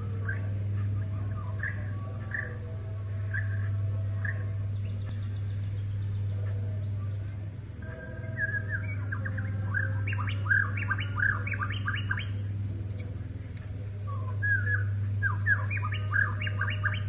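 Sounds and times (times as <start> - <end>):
steady low hum: 0.0 - 17.0
bird whistling song: 1.3 - 13.1, 14.1 - 17.0.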